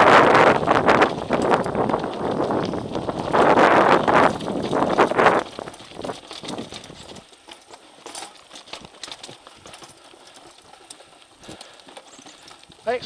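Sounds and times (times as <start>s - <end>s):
bike knocking over stone: 0.1s - 12.5s.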